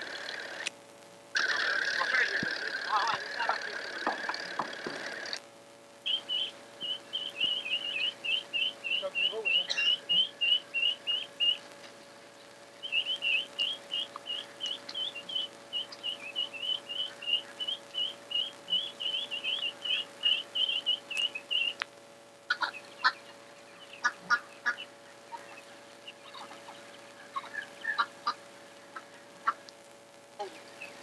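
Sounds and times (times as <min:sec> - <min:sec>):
faint hum: 0:00.0 - 0:31.0
bird chirping: 0:01.4 - 0:05.4, 0:06.0 - 0:21.8, 0:22.5 - 0:29.6, 0:30.4 - 0:31.0.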